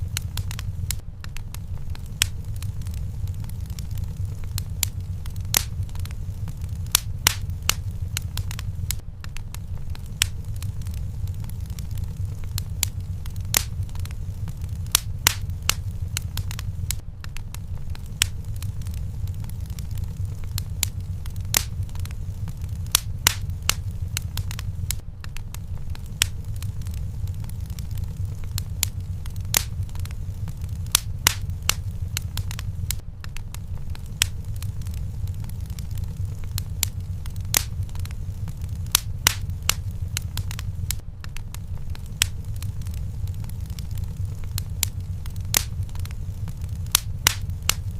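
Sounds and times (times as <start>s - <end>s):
fire crackling and popping: 0.0s - 47.9s
low steady rumble: 0.0s - 47.9s.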